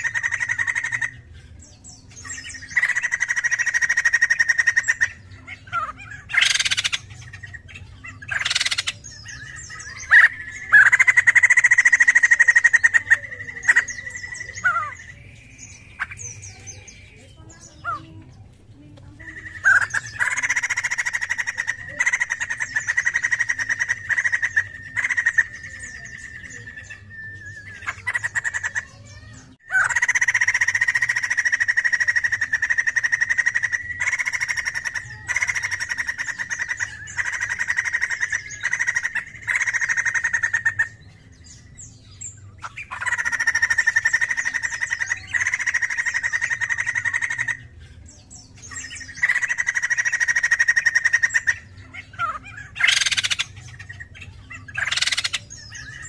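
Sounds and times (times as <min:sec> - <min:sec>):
bird chattering calls: 0:00.0 - 0:56.0.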